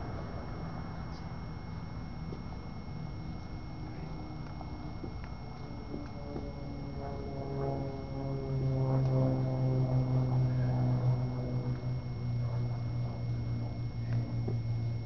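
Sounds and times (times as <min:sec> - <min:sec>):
low droning motor hum: 0:00.0 - 0:15.0.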